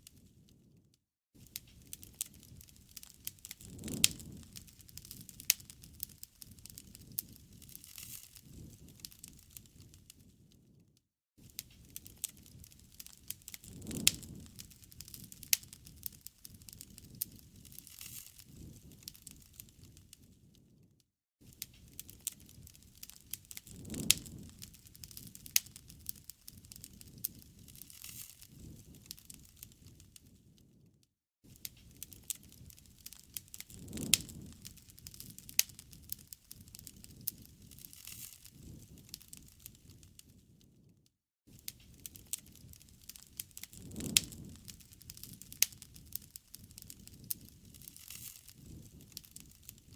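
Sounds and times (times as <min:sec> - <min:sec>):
bonfire wood popping and snapping: 0:01.4 - 0:10.6, 0:11.4 - 0:20.6, 0:21.4 - 0:30.7, 0:31.5 - 0:40.8, 0:41.5 - 0:49.9
low rush of flames: 0:01.4 - 0:10.8, 0:11.4 - 0:30.9, 0:31.5 - 0:40.8, 0:41.5 - 0:49.9.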